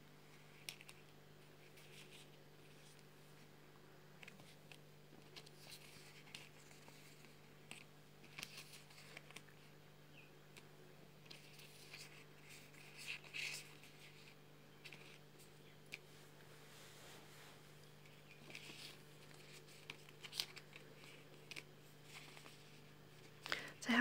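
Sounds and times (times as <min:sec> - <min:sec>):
low freezer hum: 0:00.0 - 0:24.0
paper stickers rustling: 0:00.3 - 0:03.4, 0:04.2 - 0:09.7, 0:11.2 - 0:16.1, 0:17.8 - 0:23.7.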